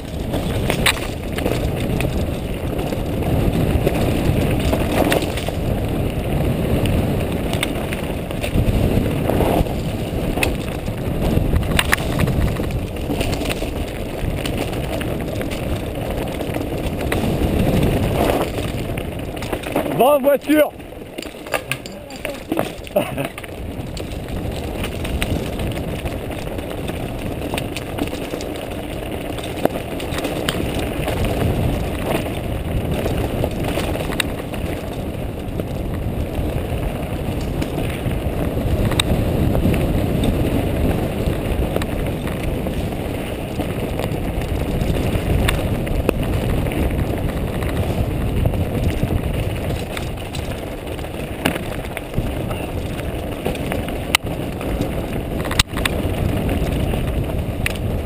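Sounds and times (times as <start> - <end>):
bike clicks and knocks: 0.0 - 58.0
tyres rumbling on loose stone: 0.0 - 58.0
wind on microphone: 0.0 - 58.0.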